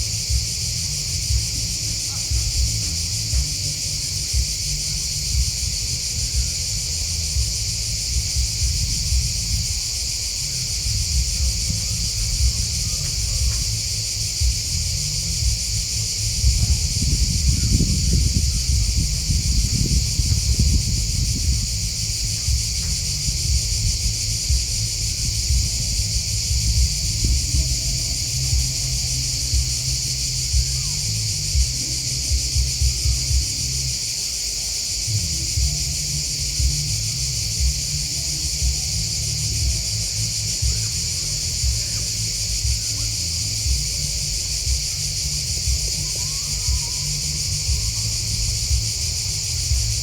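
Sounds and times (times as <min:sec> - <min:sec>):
low rumble: 0:00.0 - 0:34.0, 0:35.0 - 0:50.0
grasshoppers and crickets chorus: 0:00.0 - 0:50.0.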